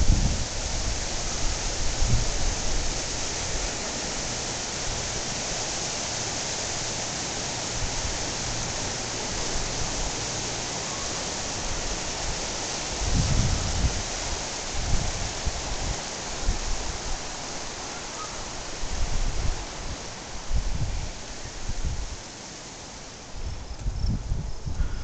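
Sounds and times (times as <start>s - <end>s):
creek rushing: 0.0s - 23.4s.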